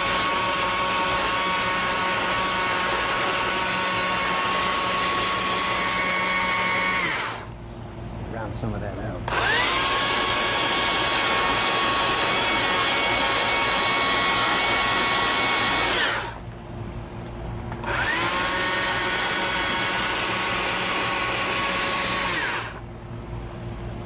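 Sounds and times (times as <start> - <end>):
chainsaw carving wood: 0.0 - 7.5, 9.2 - 16.4, 17.8 - 22.8.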